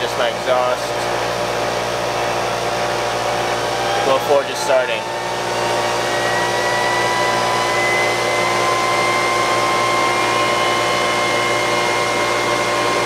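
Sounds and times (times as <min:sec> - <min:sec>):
dust collector running: 0:00.0 - 0:13.0
exhaust fan whoosh with rising whine: 0:00.0 - 0:13.0.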